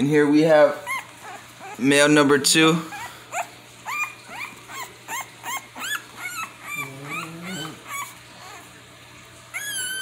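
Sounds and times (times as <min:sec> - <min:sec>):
puppy crying: 0:00.5 - 0:10.0.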